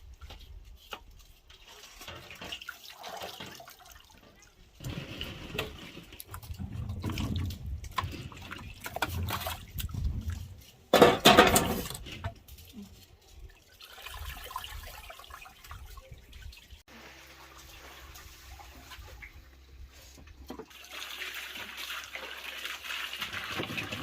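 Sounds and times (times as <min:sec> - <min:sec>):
water splashing and trickling: 0:00.0 - 0:24.0
water pouring: 0:01.3 - 0:19.6, 0:20.6 - 0:24.0.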